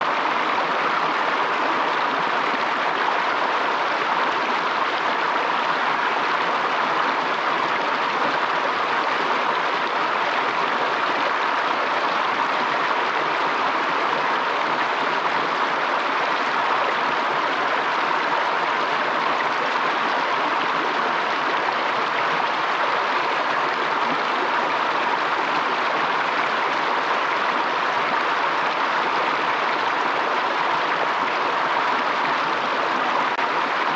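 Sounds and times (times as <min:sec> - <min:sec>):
stream rushing and splashing: 0:00.0 - 0:33.9.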